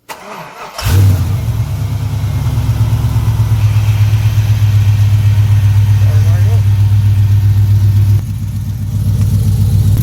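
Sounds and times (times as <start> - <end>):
car engine cranking and idling: 0.0 - 10.0.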